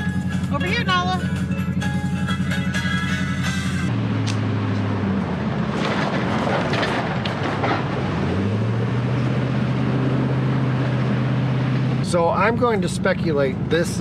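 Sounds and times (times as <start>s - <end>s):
rattling road noise: 0.0s - 14.0s
vehicle engine droning: 0.0s - 14.0s.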